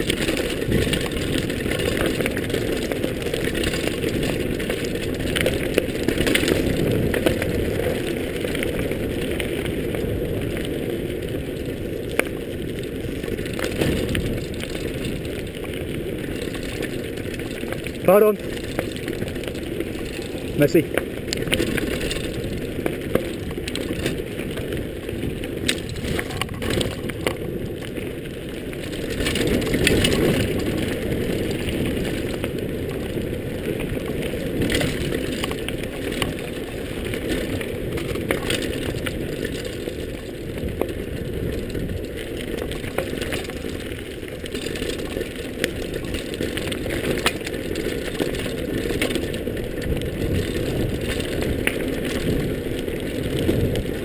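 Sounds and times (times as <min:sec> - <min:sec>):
bike clicking and rattling: 0:00.0 - 0:54.0
bike tyres rumbling on dirt: 0:00.0 - 0:54.0.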